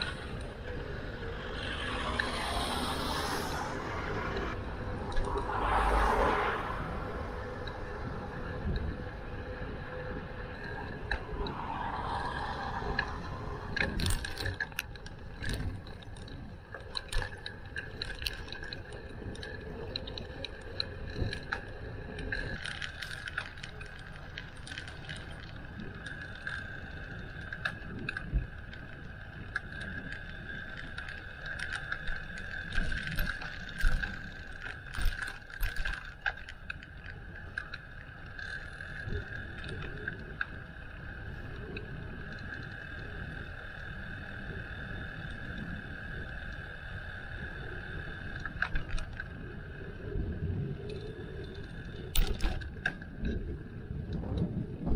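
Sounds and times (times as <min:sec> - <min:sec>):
bicycle tyres and wind rumble: 0:00.0 - 0:54.9
bike parts rattling and clicking: 0:00.0 - 0:54.9.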